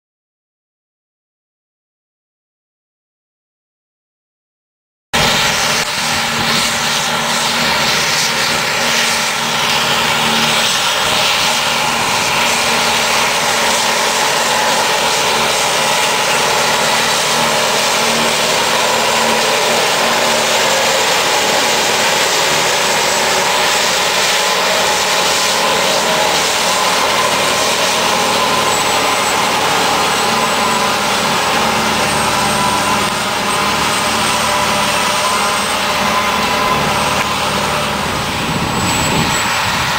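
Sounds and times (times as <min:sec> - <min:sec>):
forage harvester engine and chopping: 0:05.2 - 0:39.9.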